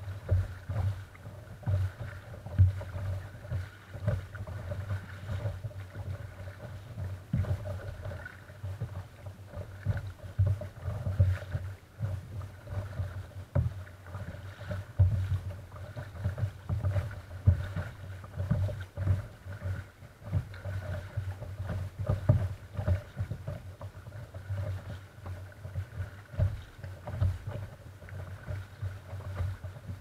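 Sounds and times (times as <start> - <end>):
water lapping against kayak hull: 0.0 - 30.0.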